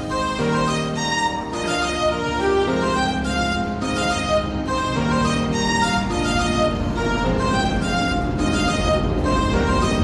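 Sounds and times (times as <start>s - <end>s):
bowed strings melody: 0.0s - 10.0s.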